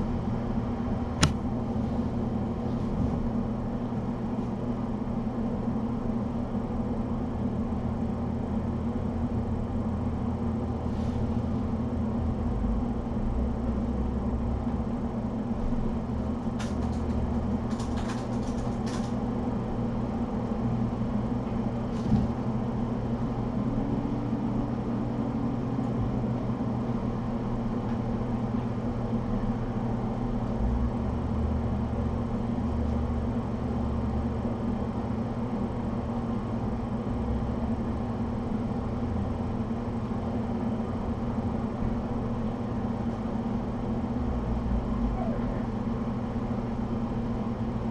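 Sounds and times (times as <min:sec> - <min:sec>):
air conditioner humming: 0:00.0 - 0:47.9.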